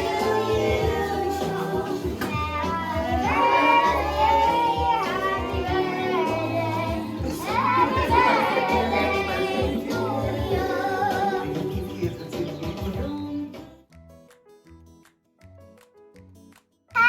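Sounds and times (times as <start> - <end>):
song with sung vocals: 0.0 - 13.8.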